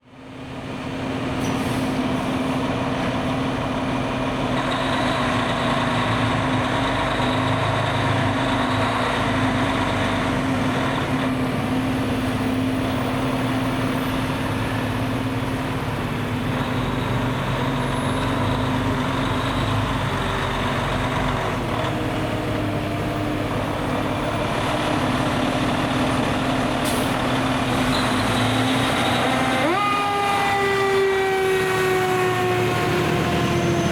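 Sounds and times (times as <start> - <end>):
fire truck engine droning: 0.0 - 33.9.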